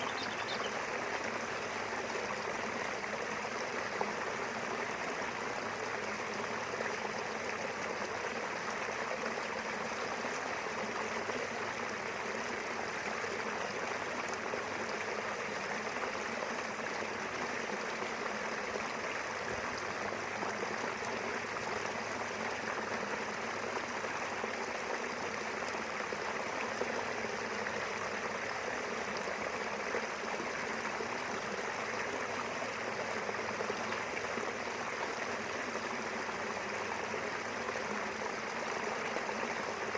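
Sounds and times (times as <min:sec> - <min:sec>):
small river flowing: 0:00.0 - 0:39.9.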